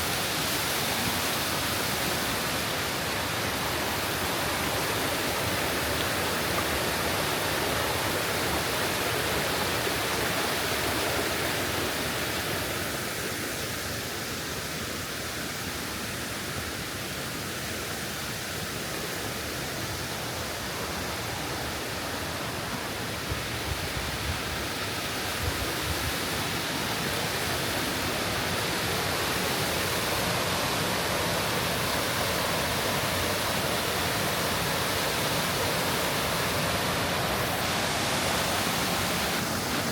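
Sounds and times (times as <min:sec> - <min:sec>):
stream and waterfalls rushing: 0:00.0 - 0:39.9.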